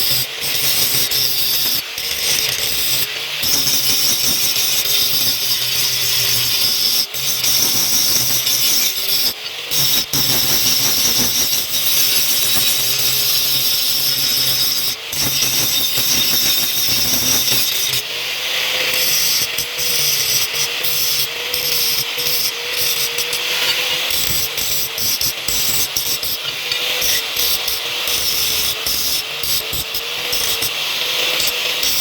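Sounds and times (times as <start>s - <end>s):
electric grinder grinding steel: 0.0s - 32.0s.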